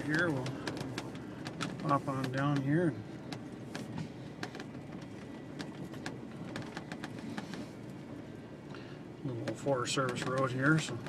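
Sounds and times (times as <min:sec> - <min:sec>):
scattered clicks and knocks: 0:00.0 - 0:07.7, 0:09.3 - 0:11.0
truck engine and road rumble: 0:00.0 - 0:11.0.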